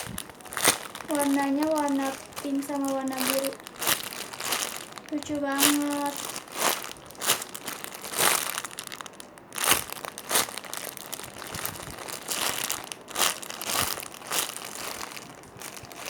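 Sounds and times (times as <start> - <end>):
plastic crinkling: 0.0 - 16.0.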